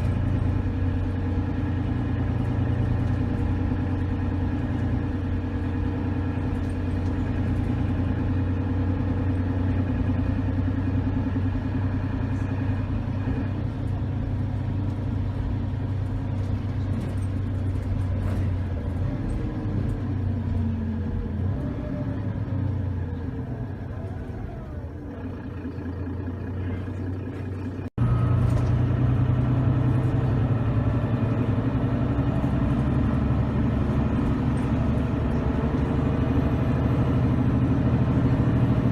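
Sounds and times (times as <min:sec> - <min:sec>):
bus diesel engine droning: 0:00.0 - 0:38.9.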